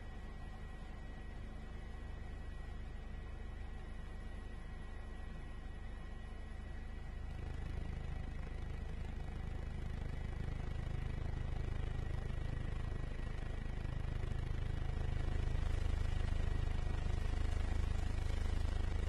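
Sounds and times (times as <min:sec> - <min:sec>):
helicopter engine whine: 0:00.0 - 0:19.0.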